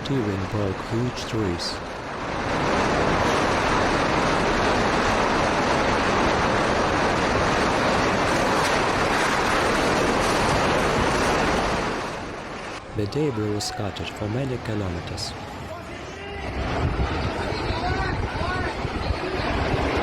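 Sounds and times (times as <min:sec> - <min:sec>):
driving rain: 0:00.0 - 0:20.0
roaring wind: 0:00.0 - 0:20.0.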